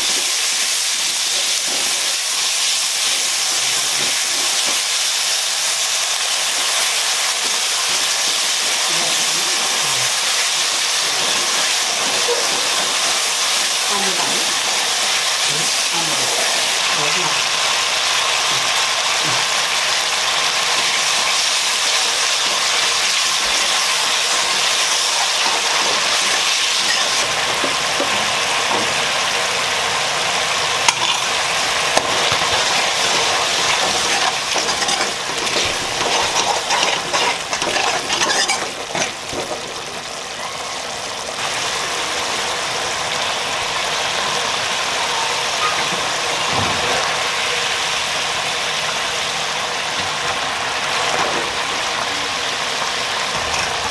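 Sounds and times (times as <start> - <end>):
curry sizzling and bubbling: 0.0 - 53.9.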